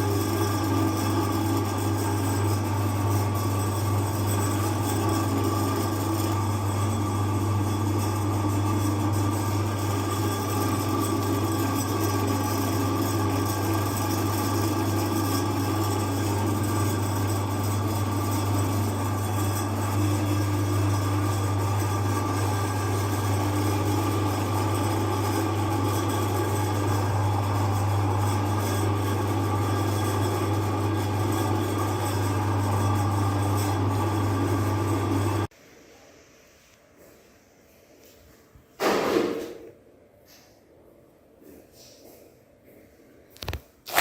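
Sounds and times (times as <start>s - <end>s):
meat grinder motor humming: 0.0s - 35.5s, 43.4s - 44.0s.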